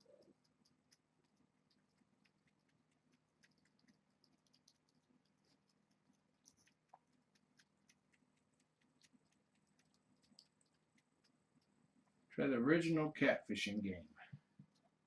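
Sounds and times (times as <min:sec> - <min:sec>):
faint ticks and rustles: 0:00.0 - 0:12.4, 0:13.9 - 0:15.0
low steady hum: 0:00.0 - 0:15.0.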